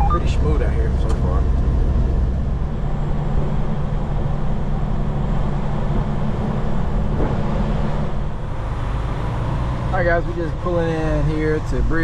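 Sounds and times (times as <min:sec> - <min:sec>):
truck diesel engine running: 0:00.0 - 0:12.0
tyre and road noise: 0:00.0 - 0:12.0.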